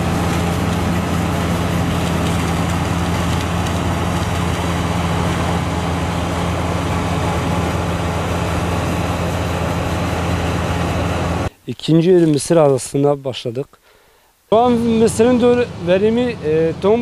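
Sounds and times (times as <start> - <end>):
combine harvester engine drone: 0.0 - 11.5, 14.6 - 17.0.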